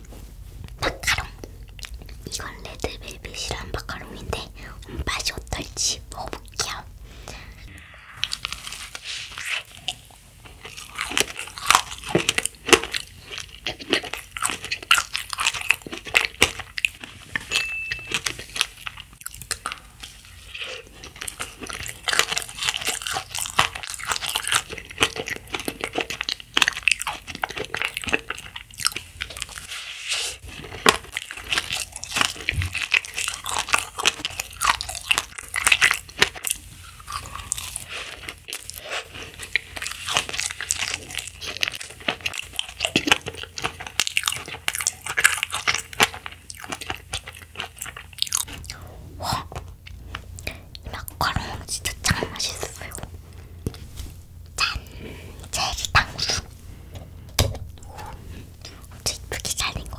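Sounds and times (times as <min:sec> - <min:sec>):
biting and chewing macaron: 0:07.7 - 0:59.9.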